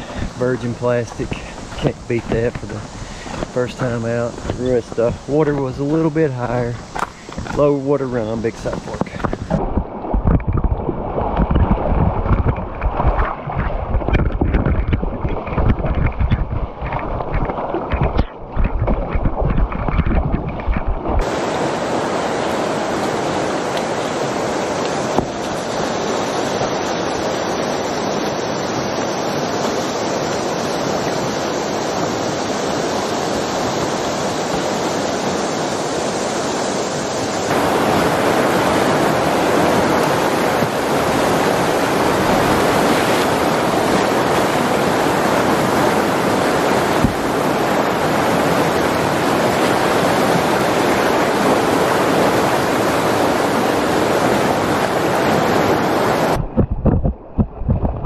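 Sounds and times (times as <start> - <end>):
whitewater rapid rushing: 0.0 - 56.7.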